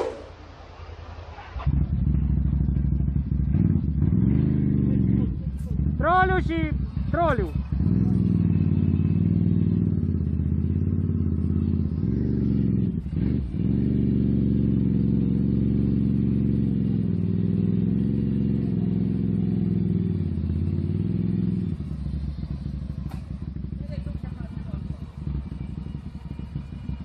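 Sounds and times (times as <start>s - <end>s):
atv engine revving and idling: 0.0s - 27.0s.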